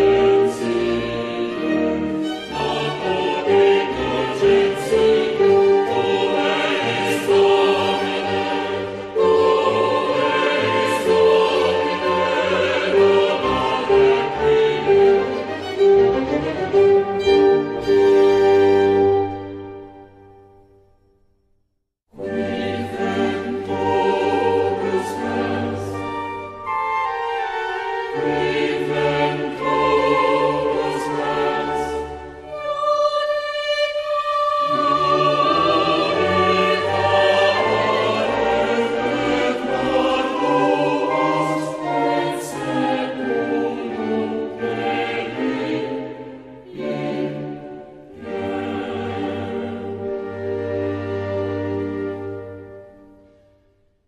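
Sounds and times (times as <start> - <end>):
choir singing: 0.0 - 20.8, 22.1 - 53.6.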